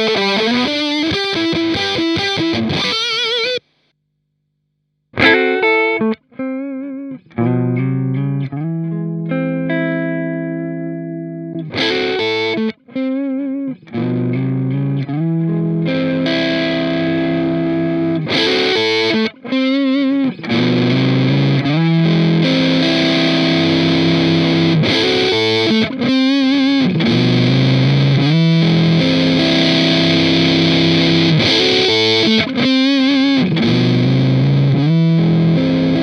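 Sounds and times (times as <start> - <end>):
distorted electric guitar: 0.0 - 3.9, 5.2 - 36.0.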